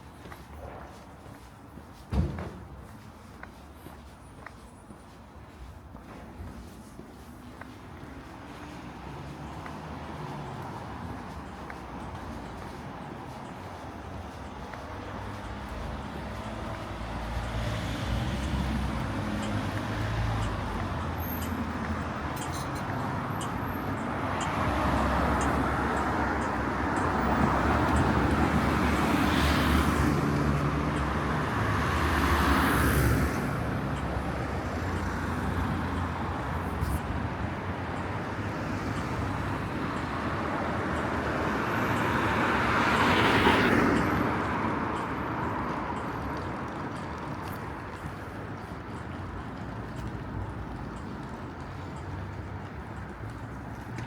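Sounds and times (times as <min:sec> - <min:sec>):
cars passing on road: 0:00.0 - 0:54.0.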